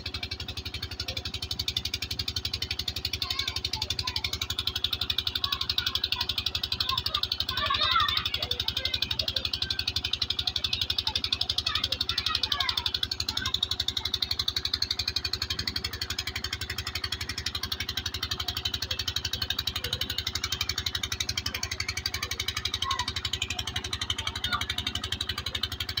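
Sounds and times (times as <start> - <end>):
pump engine chugging: 0.0 - 26.0.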